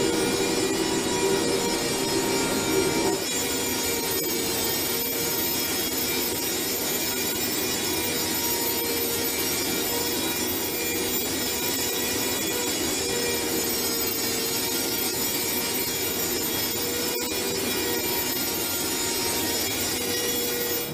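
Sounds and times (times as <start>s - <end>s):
machinery whining tones: 0.0s - 20.9s.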